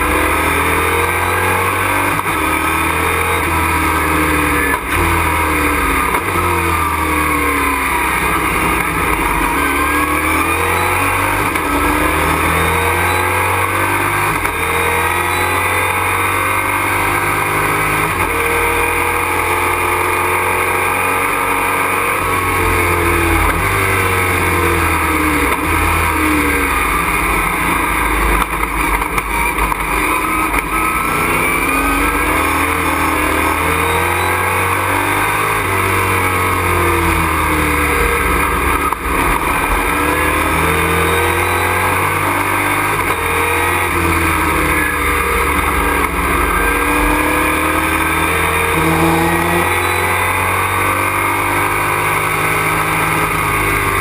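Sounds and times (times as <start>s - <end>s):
race truck engine revving: 0.0s - 54.0s.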